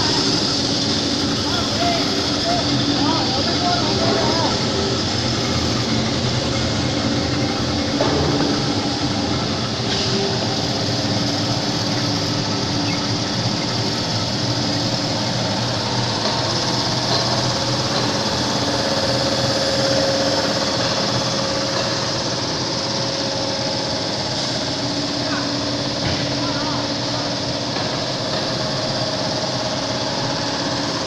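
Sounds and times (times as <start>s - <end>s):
machines whirring: 0.0s - 31.0s.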